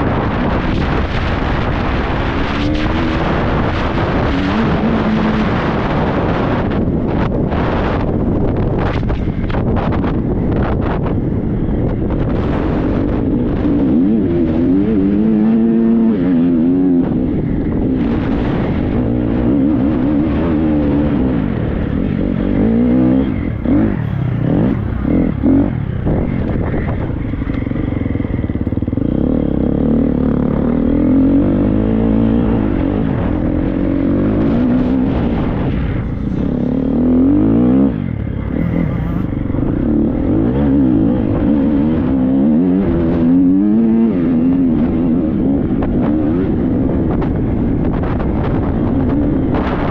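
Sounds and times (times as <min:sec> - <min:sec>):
motorcycle engine revving: 0:00.0 - 0:49.9
wind buffeting microphone: 0:00.0 - 0:49.9.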